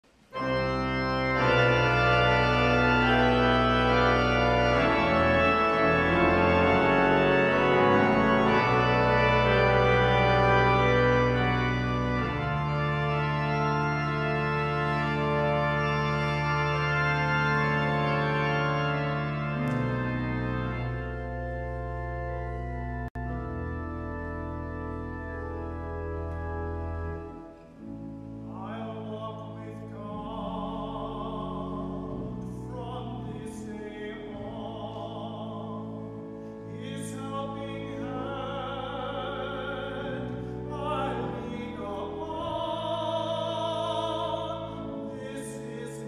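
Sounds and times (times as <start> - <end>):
pipe organ playing chords: 0.2 - 46.0.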